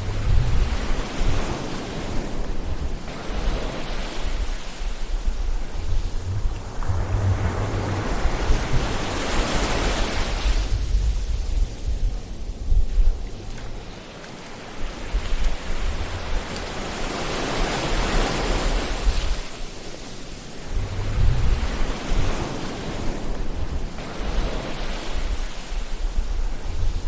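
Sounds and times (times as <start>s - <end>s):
deep surf rumble: 0.0s - 19.4s, 20.4s - 27.0s
ocean waves washing in: 0.0s - 27.0s.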